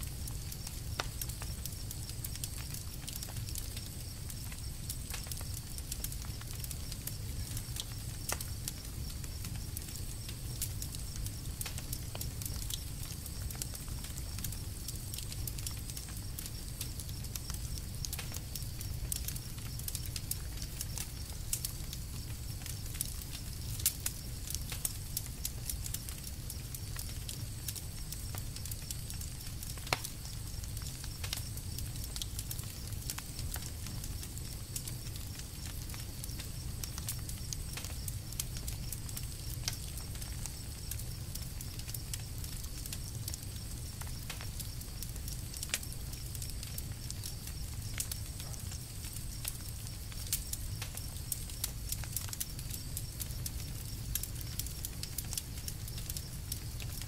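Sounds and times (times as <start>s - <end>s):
campfire crackling and popping: 0.0s - 57.0s
loud fire snap: 0.0s - 57.0s.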